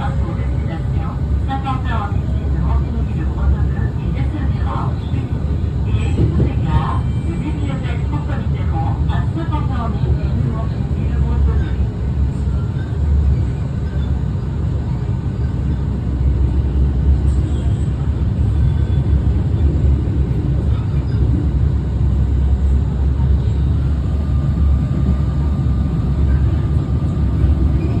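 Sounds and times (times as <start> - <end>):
electric train rumble: 0.0 - 28.0.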